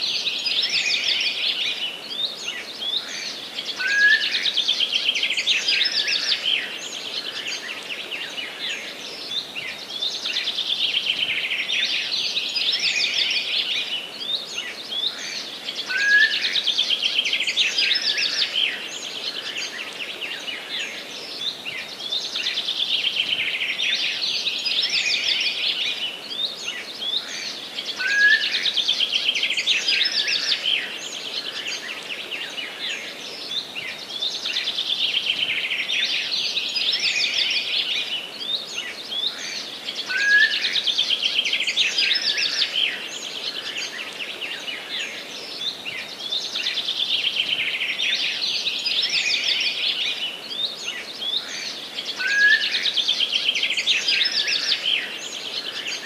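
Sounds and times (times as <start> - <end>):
songbirds chirping chorus: 0.0 - 56.0.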